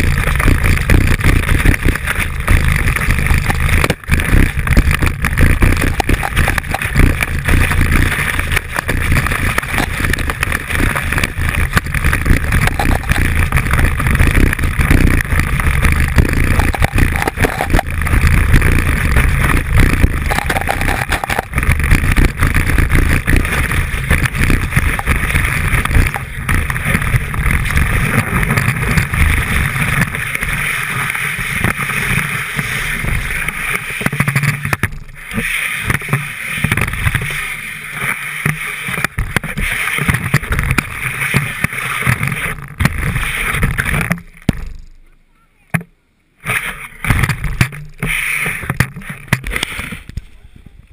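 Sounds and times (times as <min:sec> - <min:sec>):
skis scraping over snow: 0:00.0 - 0:44.4, 0:46.4 - 0:50.4.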